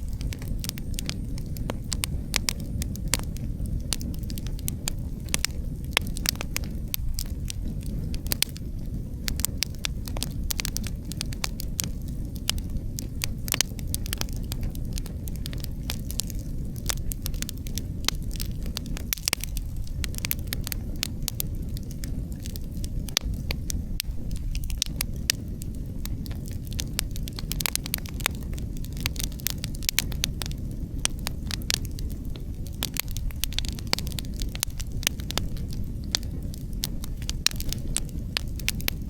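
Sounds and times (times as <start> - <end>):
campfire crackling and popping: 0.0 - 39.0
low rumble of wind: 0.0 - 39.0.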